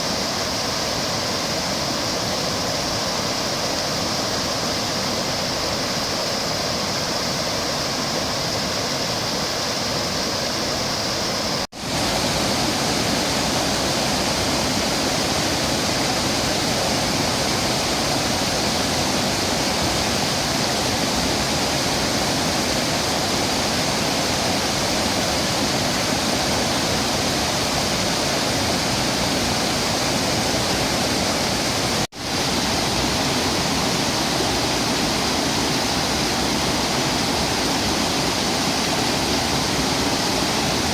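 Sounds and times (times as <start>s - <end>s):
waterfall rushing over rock: 0.0s - 40.9s.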